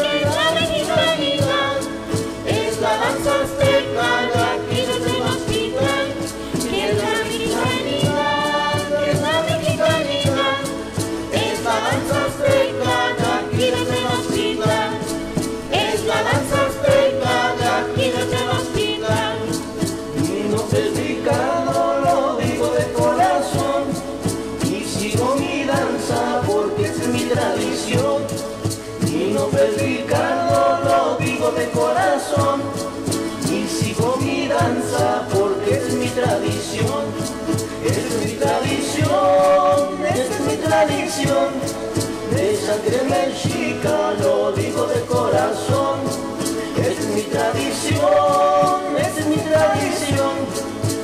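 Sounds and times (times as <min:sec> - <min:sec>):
group of voices singing: 0:00.0 - 0:51.0
strummed stringed instruments: 0:00.0 - 0:51.0.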